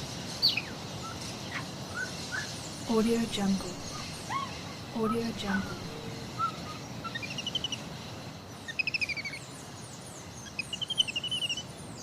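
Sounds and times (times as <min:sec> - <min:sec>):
jungle ambience hiss: 0:00.0 - 0:12.0
songbird singing: 0:00.4 - 0:12.0.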